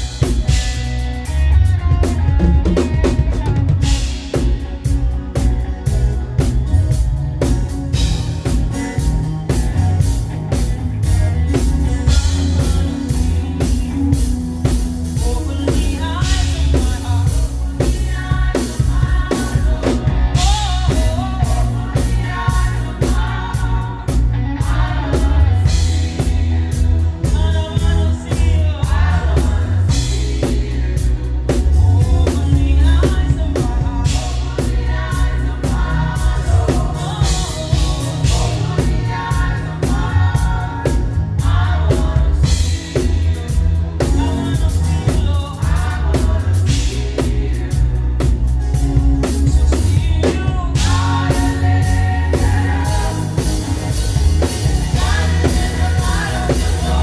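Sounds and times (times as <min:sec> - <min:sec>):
drum kit playing: 0:00.0 - 0:57.0
heavy bass line: 0:00.0 - 0:57.0
voices singing: 0:00.0 - 0:57.0.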